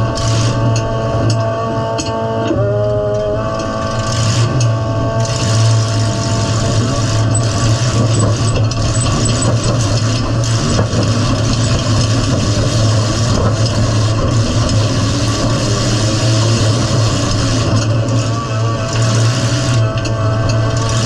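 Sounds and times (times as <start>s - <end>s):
car engine running loudly: 0.0s - 21.0s.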